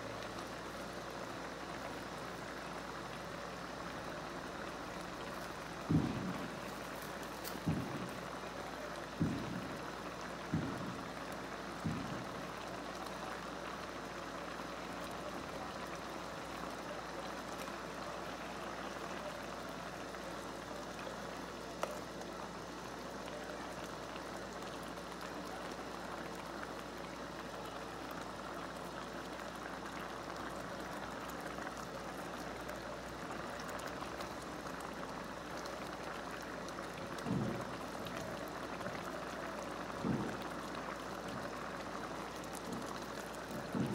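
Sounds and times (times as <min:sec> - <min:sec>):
congee bubbling in pot: 0:00.0 - 0:43.9.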